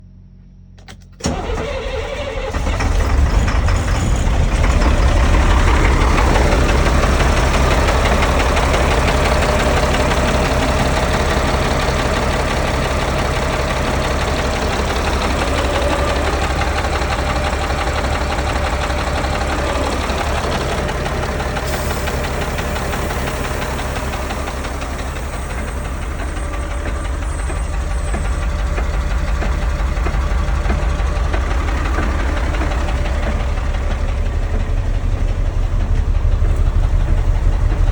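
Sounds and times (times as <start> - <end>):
diesel engine starting and idling: 0.6 - 37.9.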